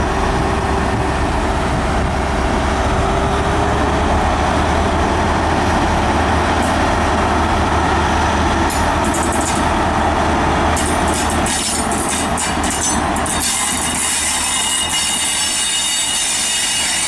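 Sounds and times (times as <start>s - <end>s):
diesel train engine humming: 0.0s - 17.0s.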